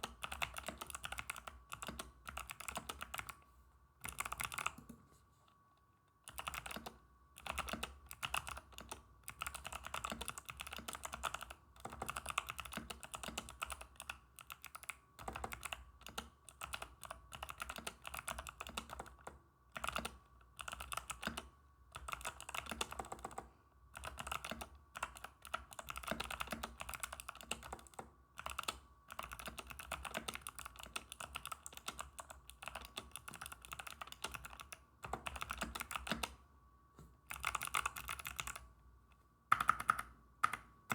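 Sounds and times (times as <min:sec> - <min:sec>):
clicky mechanical keyboard typing: 0:00.0 - 0:03.4, 0:04.0 - 0:05.0, 0:06.3 - 0:36.4, 0:37.3 - 0:38.7, 0:39.5 - 0:40.9.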